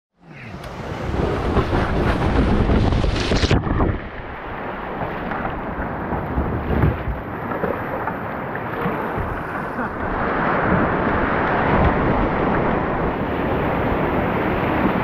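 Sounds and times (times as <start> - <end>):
whitewater river rushing: 0.3 - 15.0
wind rumbling on microphone: 0.3 - 15.0.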